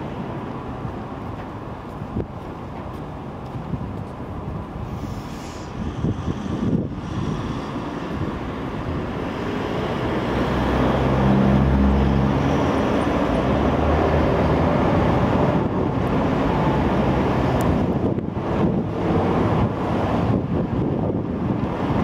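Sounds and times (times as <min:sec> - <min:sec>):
traffic rumble: 0:00.0 - 0:22.0
heavy engine hum: 0:04.2 - 0:22.0.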